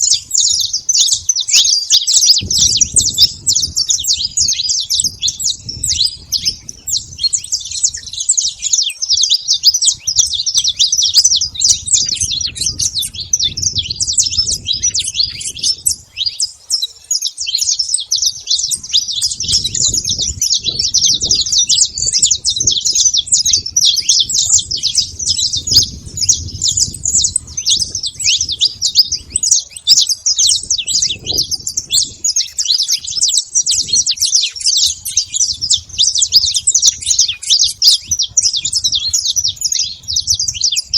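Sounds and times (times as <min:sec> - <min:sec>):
finch chirping and trilling: 0:00.0 - 0:40.9.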